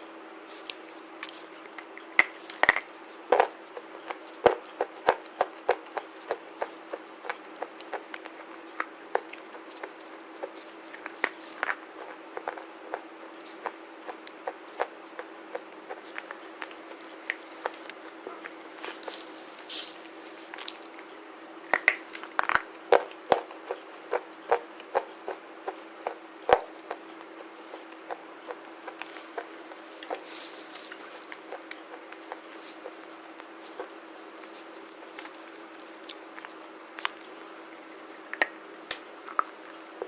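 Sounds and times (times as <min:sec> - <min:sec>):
slate being chewed crunching: 0:00.4 - 0:40.0.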